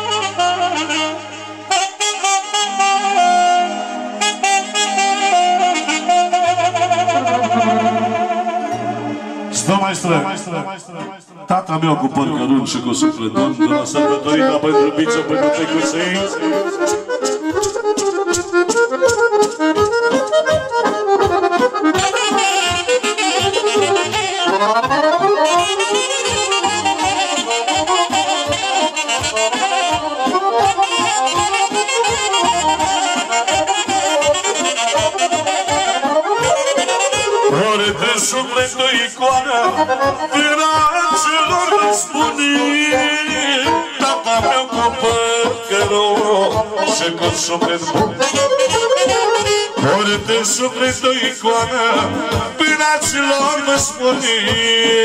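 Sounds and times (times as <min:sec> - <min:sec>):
accordion melody over a beat: 0:00.0 - 0:55.0.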